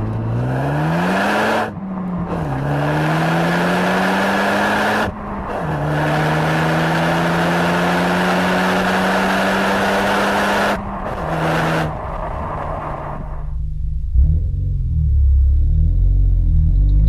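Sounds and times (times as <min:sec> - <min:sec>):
car exhaust at full throttle: 0:00.0 - 0:17.0.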